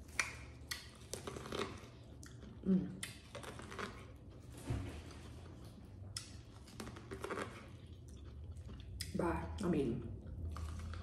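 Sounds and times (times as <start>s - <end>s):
chewing corn: 0.0s - 11.0s
low steady hum: 0.0s - 11.0s.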